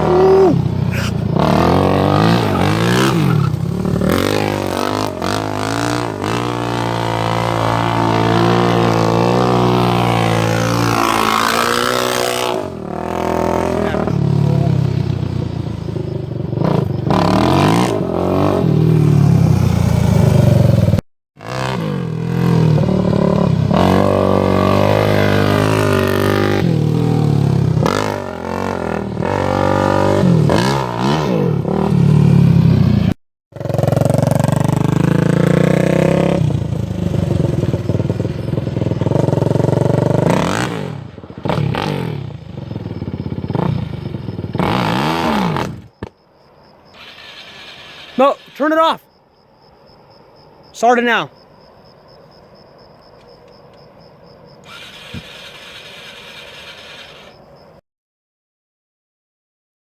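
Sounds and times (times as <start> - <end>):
quad engine revving: 0.0 - 45.9, 47.0 - 48.9, 54.6 - 57.3.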